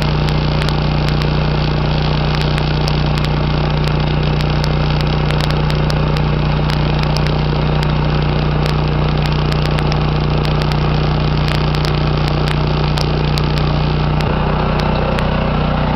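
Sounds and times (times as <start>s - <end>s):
spatter popping: 0.0s - 15.4s
welding arc crackling: 0.0s - 15.9s.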